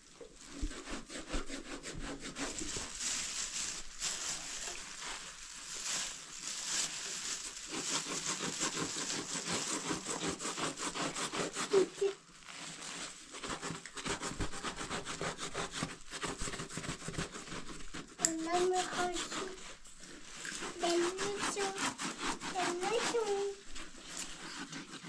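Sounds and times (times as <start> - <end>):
knife sawing through cloth: 0.4 - 5.8, 6.4 - 25.0.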